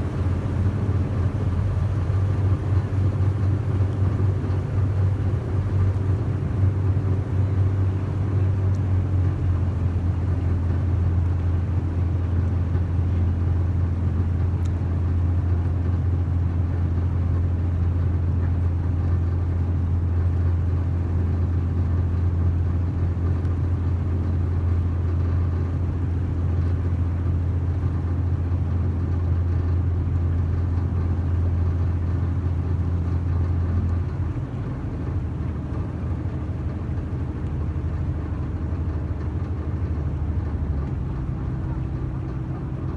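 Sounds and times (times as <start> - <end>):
boat engine humming: 0.0 - 42.9.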